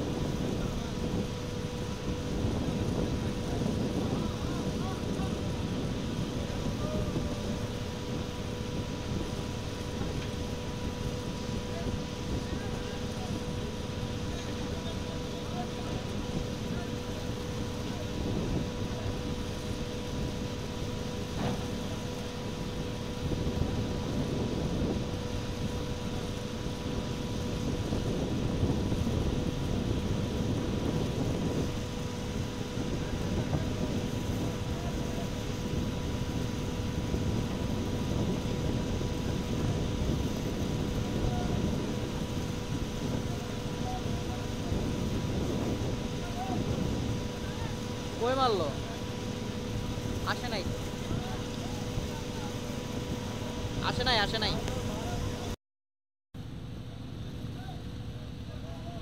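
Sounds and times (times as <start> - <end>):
boat engine drone with whine: 0.0 - 55.6, 56.4 - 59.0
water noise: 0.0 - 55.6
wind: 0.0 - 55.6, 56.4 - 59.0.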